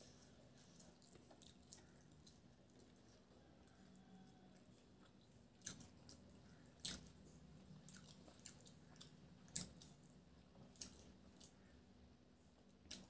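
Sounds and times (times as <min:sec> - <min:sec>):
person chewing: 0:00.0 - 0:11.8.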